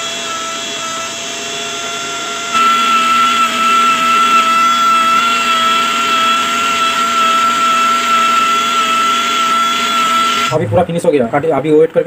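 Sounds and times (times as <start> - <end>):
rotary tool high whine: 0.0 - 10.6.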